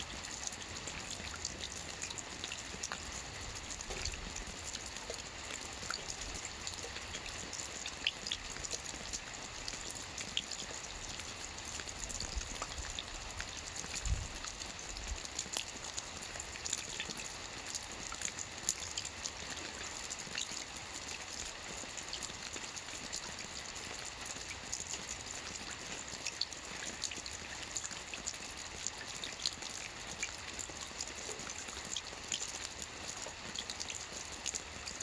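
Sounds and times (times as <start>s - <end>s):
rain pattering on a roof: 0.0s - 35.0s.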